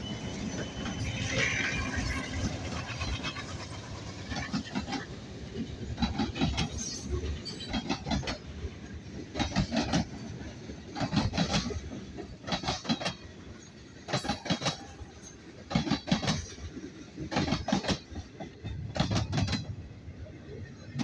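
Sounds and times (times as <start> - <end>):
train wheels clacking on track: 0.0 - 20.0.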